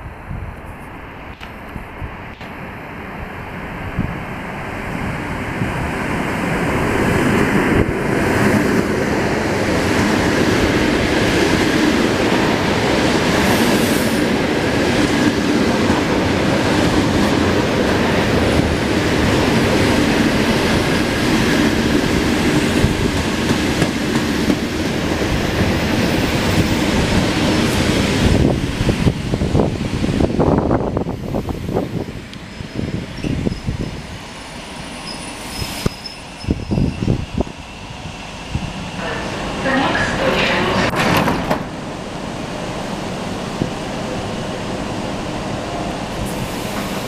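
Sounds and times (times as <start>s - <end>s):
electric train rumbling on rails: 0.0s - 47.0s.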